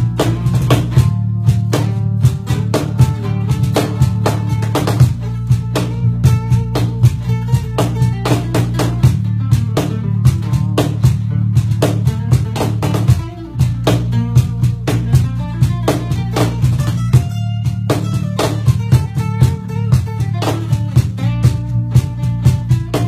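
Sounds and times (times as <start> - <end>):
acoustic guitar: 0.0 - 23.0
bass guitar: 0.0 - 23.0
hand percussion beat: 0.0 - 23.0.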